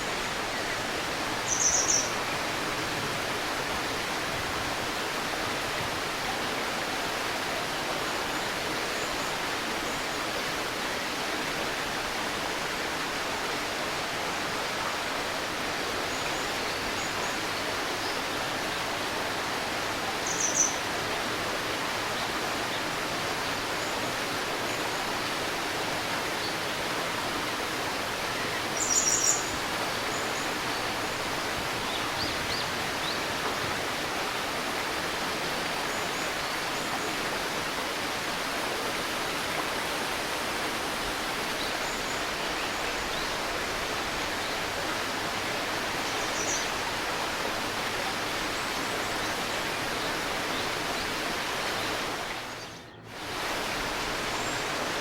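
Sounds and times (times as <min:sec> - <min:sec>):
river babbling over stones: 0:00.0 - 0:55.0.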